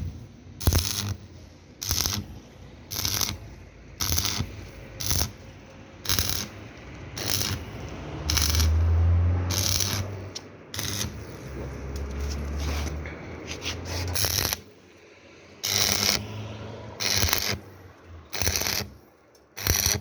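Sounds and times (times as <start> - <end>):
welding arc crackling: 0.0 - 13.0, 13.6 - 14.8, 15.6 - 16.4, 17.0 - 20.0.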